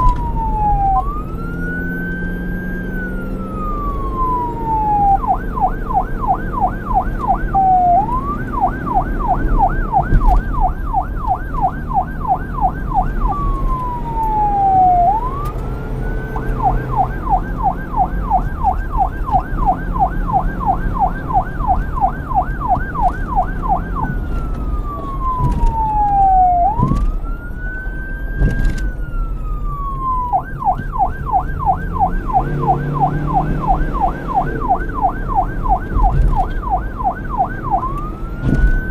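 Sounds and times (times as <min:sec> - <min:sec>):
low vehicle rumble: 0:00.0 - 0:38.9
police siren yelp and wail: 0:00.0 - 0:38.9.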